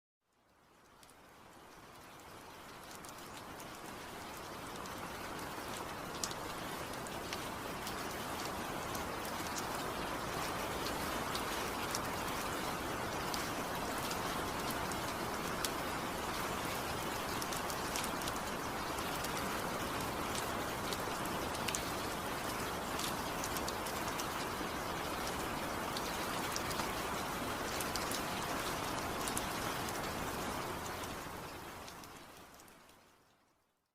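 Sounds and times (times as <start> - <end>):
heavy rain: 0.3 - 33.4
raindrops ticking: 0.3 - 33.9.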